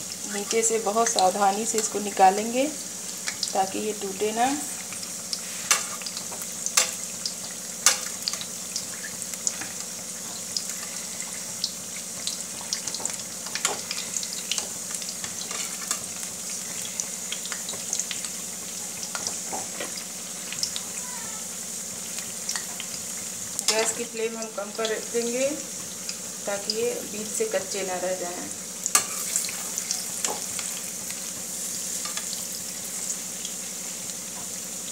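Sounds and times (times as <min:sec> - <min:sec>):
fritters deep-frying in oil: 0:00.0 - 0:34.9.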